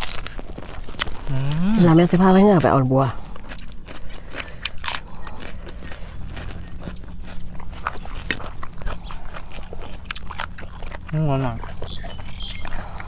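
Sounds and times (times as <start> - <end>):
chewing and crunching: 0.0 - 13.0
mouth clicks: 0.0 - 13.0
steady low hum: 0.0 - 13.0.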